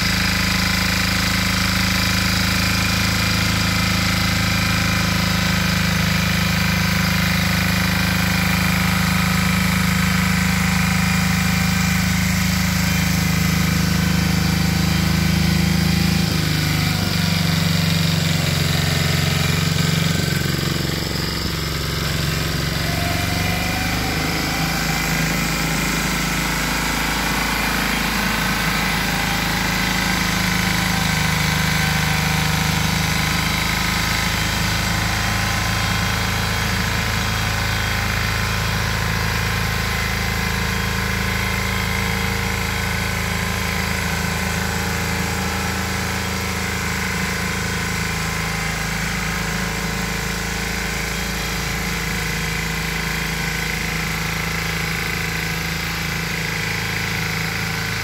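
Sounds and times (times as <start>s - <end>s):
tiller engine running: 0.0s - 58.0s.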